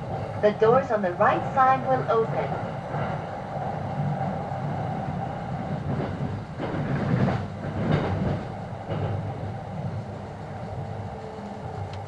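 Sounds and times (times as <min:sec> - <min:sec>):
train clattering: 0:00.0 - 0:12.0
train wheels rumbling on rail: 0:00.0 - 0:12.0.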